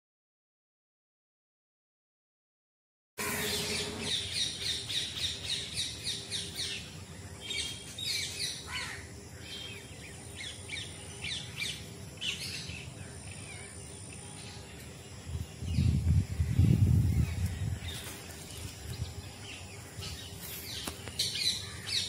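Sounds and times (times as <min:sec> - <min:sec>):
small birds chirping: 0:03.4 - 0:22.0.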